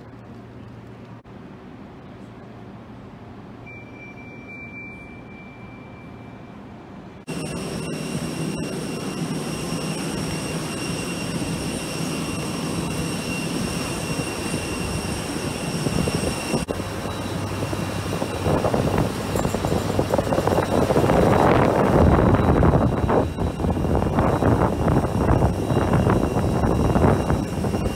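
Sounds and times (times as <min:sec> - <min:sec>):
jet aircraft engine whine: 0:03.6 - 0:27.9
thin steady high tone: 0:03.6 - 0:27.9.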